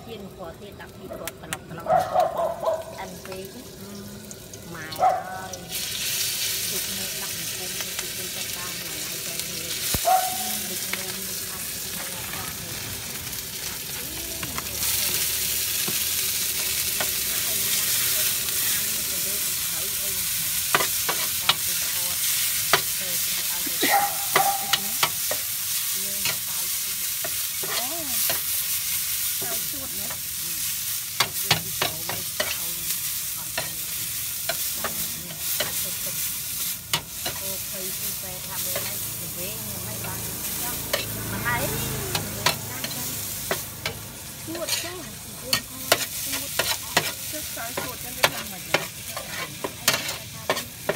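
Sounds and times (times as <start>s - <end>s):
food sizzling in wok: 0.0s - 50.9s
metal spatula scraping wok: 8.7s - 50.9s.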